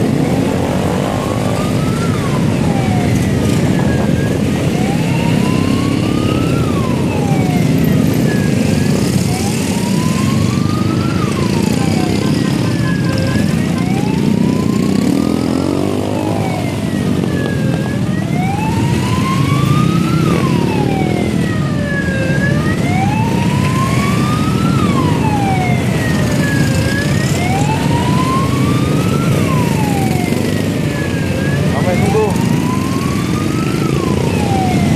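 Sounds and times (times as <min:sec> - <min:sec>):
engines rumbling: 0:00.0 - 0:34.9
siren wailing: 0:00.0 - 0:34.9.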